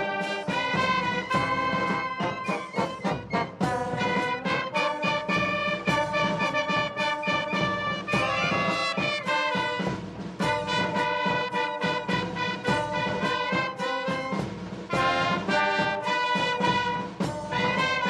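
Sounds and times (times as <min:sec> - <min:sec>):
brass band music: 0:00.0 - 0:18.0.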